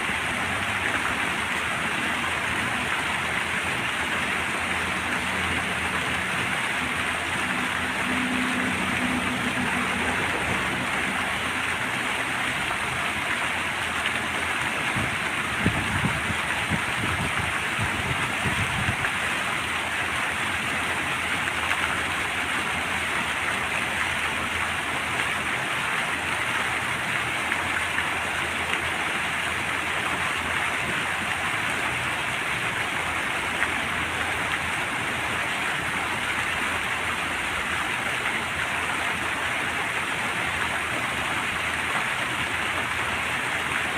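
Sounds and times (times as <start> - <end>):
fountain water splashing: 0.0 - 43.9.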